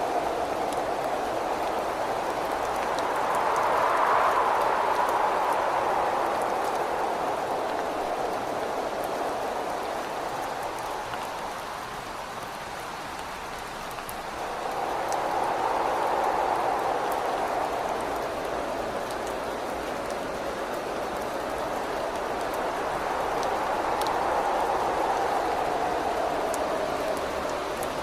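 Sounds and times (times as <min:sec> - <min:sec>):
gusting wind: 0:00.0 - 0:28.0
rain on a window: 0:00.0 - 0:28.0.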